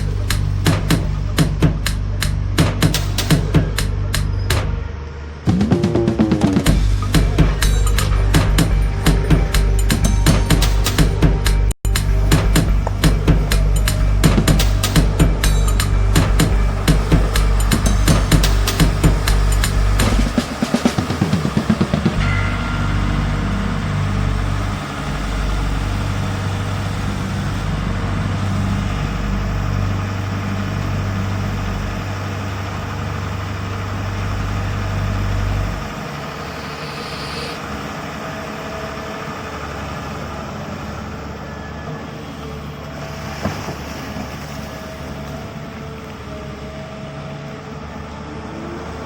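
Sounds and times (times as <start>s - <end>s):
heavy vehicle engine rumble: 0.0s - 49.0s
traffic hum: 0.0s - 49.0s.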